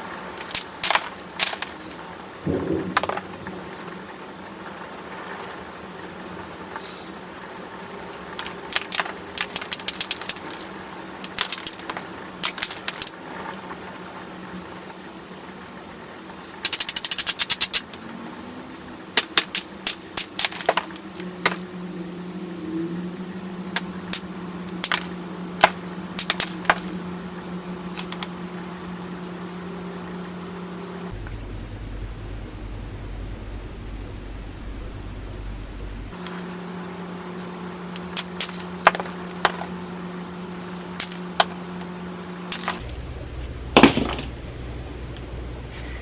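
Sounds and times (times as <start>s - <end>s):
low hum: 0.6s - 46.0s.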